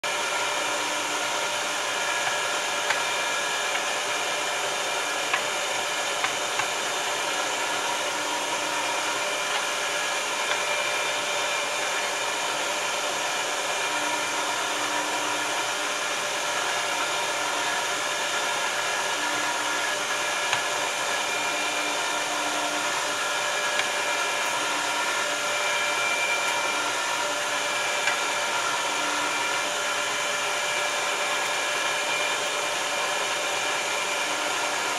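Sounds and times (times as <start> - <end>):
meat grinder motor running: 0.0 - 34.9.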